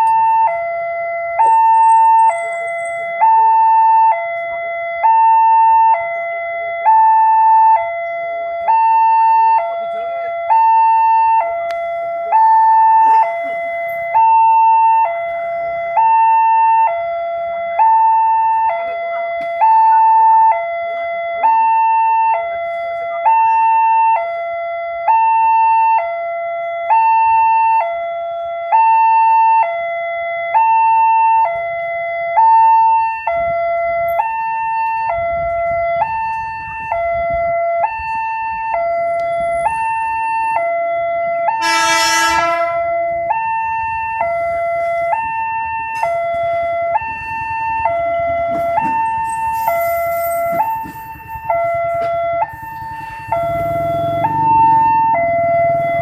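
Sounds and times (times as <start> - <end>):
level crossing two-tone alarm: 0.0 - 56.0.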